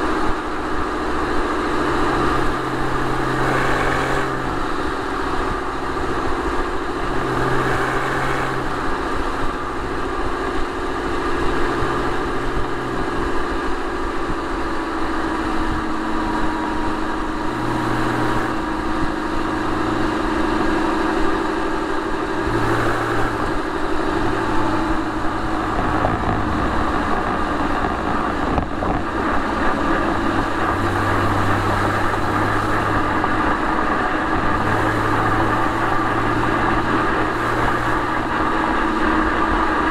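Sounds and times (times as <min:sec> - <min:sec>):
car engine droning: 0:00.0 - 0:39.9
road noise: 0:00.0 - 0:39.9
wind noise: 0:00.0 - 0:39.9.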